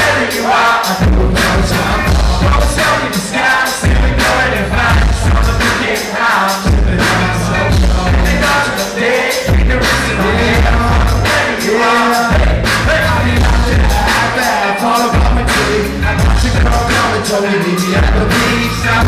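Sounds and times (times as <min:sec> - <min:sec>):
lead vocal singing: 0:00.0 - 0:19.0
live band playing: 0:00.0 - 0:19.0.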